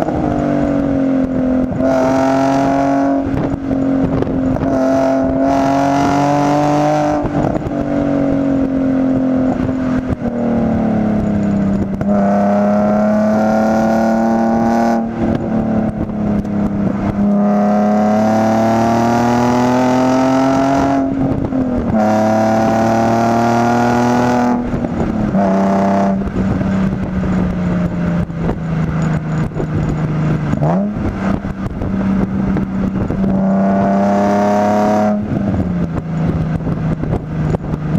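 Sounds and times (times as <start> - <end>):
car engine revving through gears: 0.0 - 37.9.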